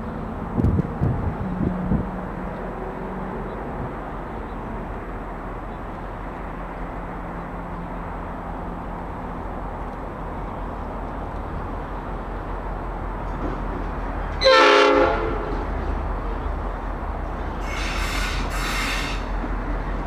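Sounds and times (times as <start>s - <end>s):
distant locomotive engine rumble: 0.0s - 20.0s.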